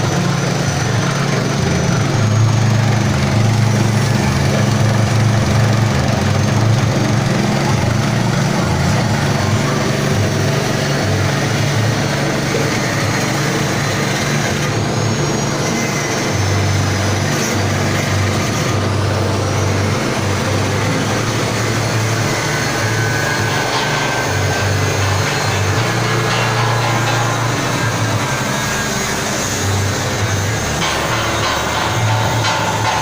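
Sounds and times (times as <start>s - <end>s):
pellet press motor droning: 0.0s - 33.0s.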